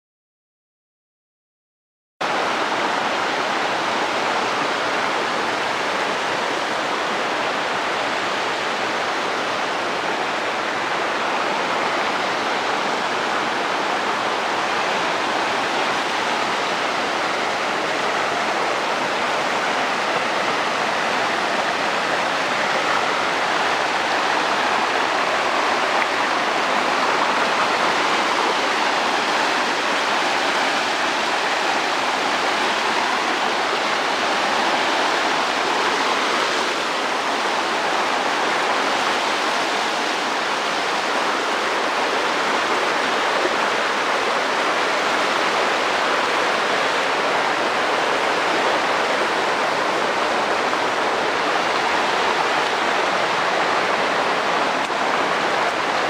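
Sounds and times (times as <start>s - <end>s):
stream rushing over rocks: 2.2s - 56.0s.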